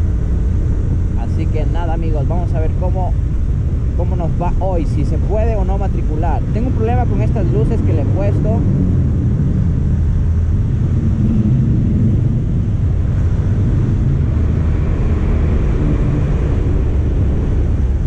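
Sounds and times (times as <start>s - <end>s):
hum of car traffic: 0.0s - 18.0s
motorcycle engine cruising: 0.0s - 18.0s.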